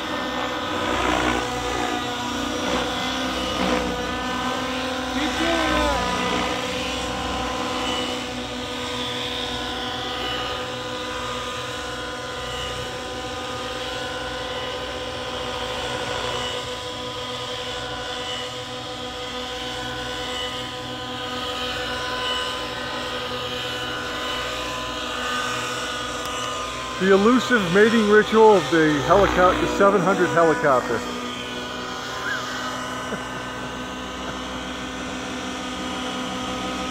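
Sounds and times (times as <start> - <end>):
helicopter rotor noise: 0.0 - 36.9
model helicopter engine whine: 0.0 - 36.9.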